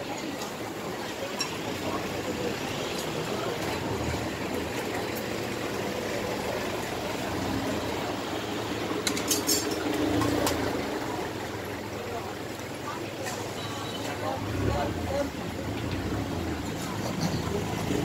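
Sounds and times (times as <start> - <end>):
low engine rumble: 0.0 - 18.0
traffic noise: 0.0 - 18.0.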